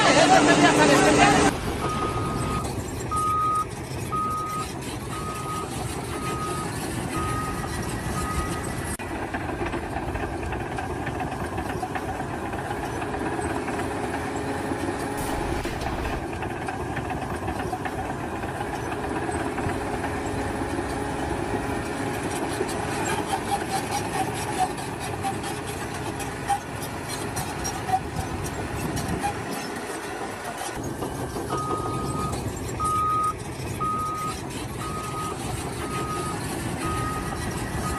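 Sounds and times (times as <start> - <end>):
heavy machinery engine running: 0.0 - 37.9.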